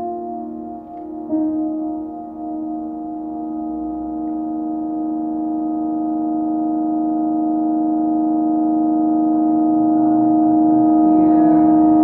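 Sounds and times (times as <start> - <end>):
sustained chord drone: 0.0 - 12.0.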